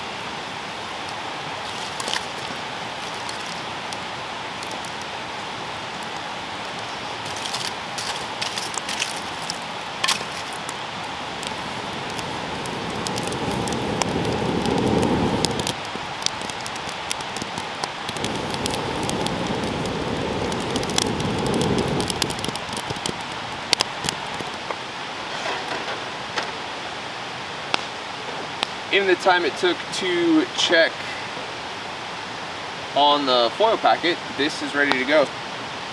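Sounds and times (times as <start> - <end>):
campfire crackling and popping: 0.0 - 26.8, 27.6 - 31.0, 33.0 - 35.3.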